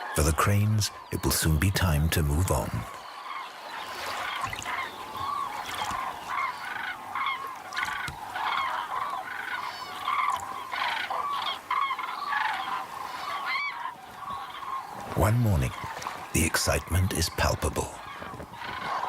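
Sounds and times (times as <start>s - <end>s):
cranes trumpeting calls: 2.8s - 19.0s.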